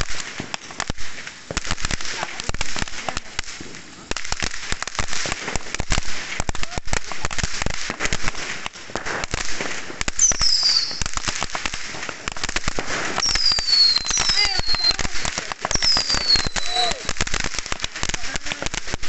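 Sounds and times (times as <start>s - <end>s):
fireworks banging and crackling: 0.0s - 19.0s.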